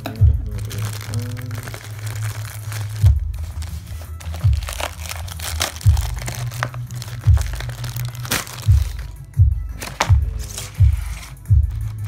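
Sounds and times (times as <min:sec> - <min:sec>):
music with heavy bass beat: 0:00.0 - 0:12.0
plastic packaging crinkling: 0:00.4 - 0:09.2, 0:09.8 - 0:12.0.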